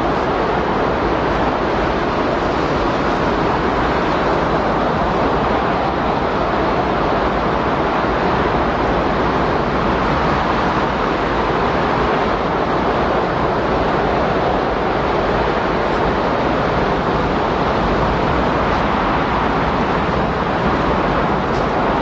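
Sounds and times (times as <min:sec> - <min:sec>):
steady rush of wind: 0:00.0 - 0:22.0.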